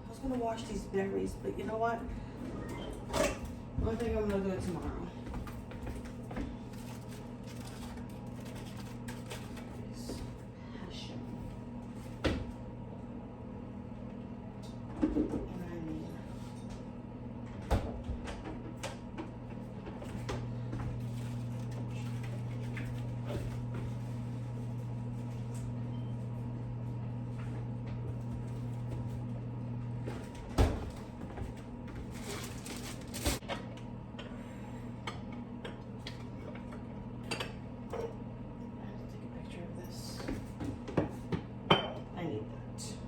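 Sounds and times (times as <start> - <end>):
low appliance hum: 0.0 - 43.0.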